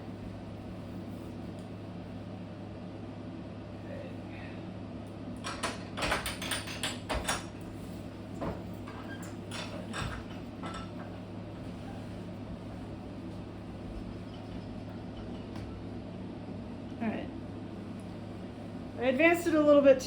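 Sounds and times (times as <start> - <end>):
steady low hum: 0.0 - 6.1, 7.1 - 20.0.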